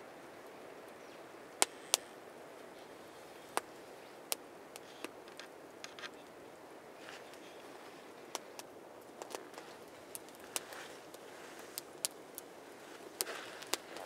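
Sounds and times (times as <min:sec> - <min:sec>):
steady low hiss: 0:00.0 - 0:14.0
campfire crackling and popping: 0:00.1 - 0:14.0.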